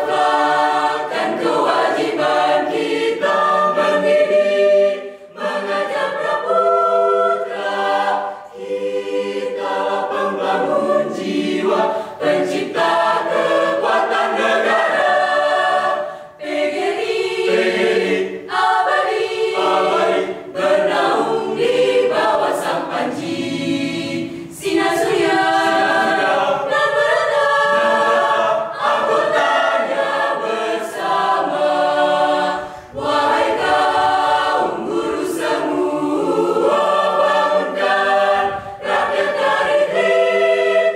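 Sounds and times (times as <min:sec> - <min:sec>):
mixed choir singing a cappella: 0:00.0 - 0:40.9.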